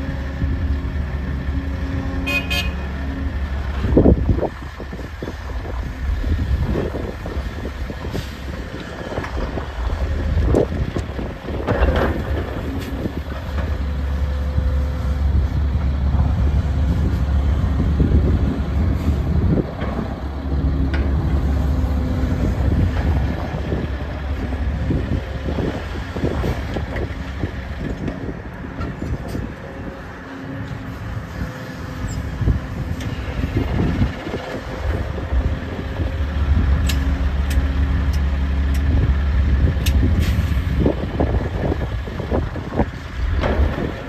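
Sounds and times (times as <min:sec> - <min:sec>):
excavator diesel engine under load: 0:00.0 - 0:44.0.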